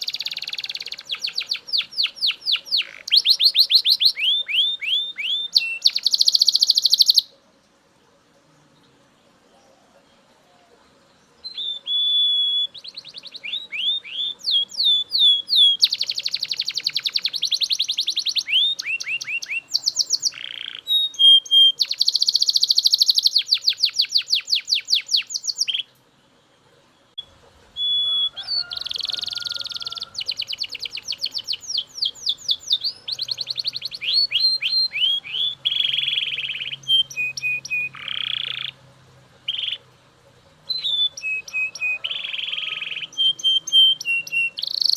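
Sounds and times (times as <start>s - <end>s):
canary singing trills: 0.0s - 7.5s, 8.7s - 44.9s.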